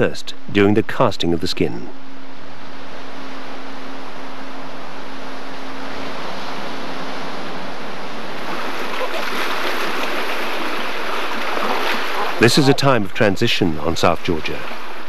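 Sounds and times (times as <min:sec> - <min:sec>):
faint steady hum: 0:00.0 - 0:15.0
rushing outdoor noise: 0:00.0 - 0:15.0.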